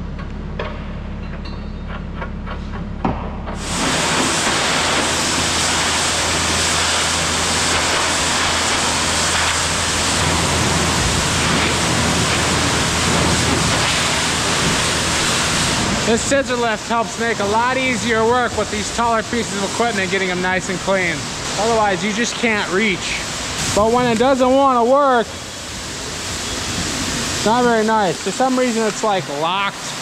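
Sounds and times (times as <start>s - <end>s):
pressure washer spraying: 3.6s - 30.0s.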